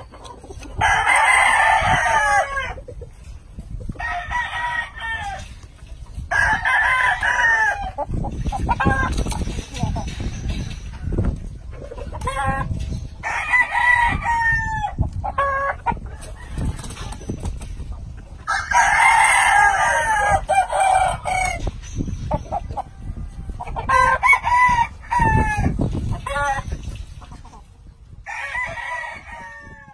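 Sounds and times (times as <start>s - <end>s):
roosters crowing: 0.0s - 2.9s, 3.9s - 17.4s, 18.4s - 26.9s, 28.1s - 29.9s.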